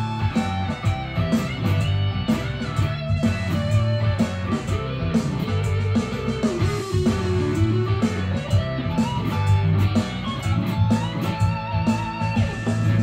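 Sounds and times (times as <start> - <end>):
backing track with bass and drums: 0.0 - 13.0
electric guitar solo: 0.0 - 13.0.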